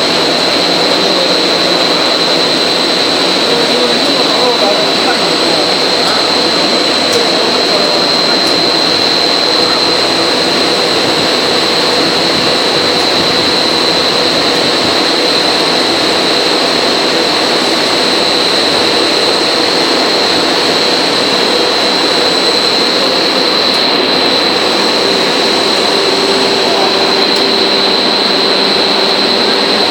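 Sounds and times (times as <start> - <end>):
extrusion machine whining: 0.0 - 29.9.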